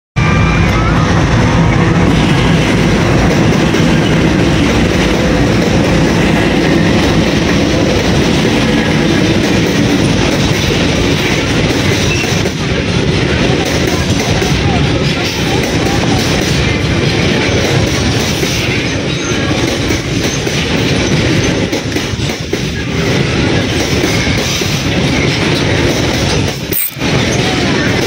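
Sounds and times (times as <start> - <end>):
diesel locomotive engines: 0.2 - 28.0
train wheels rumbling and clattering: 0.2 - 28.0.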